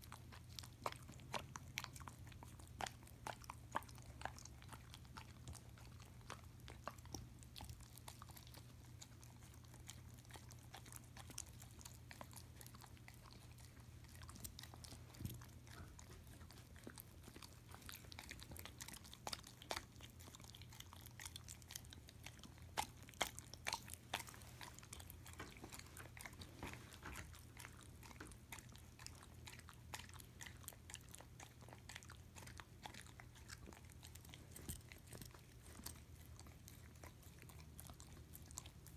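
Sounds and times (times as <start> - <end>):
dog licking and smacking: 0.0 - 38.9.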